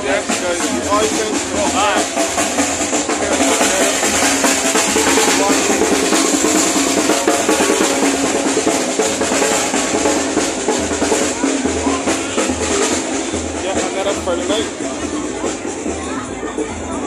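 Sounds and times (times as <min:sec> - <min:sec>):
bass drum: 0:00.0 - 0:17.0
marching drums: 0:00.0 - 0:17.0.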